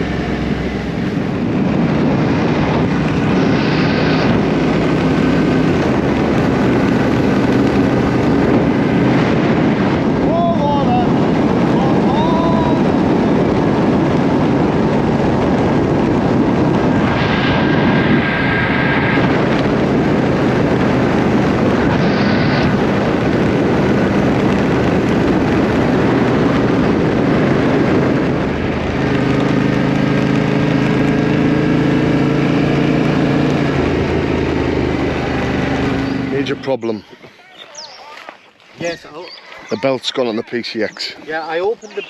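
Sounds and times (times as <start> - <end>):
motorcycle engine drone: 0.0 - 37.2
wind rush on microphone: 0.0 - 42.0.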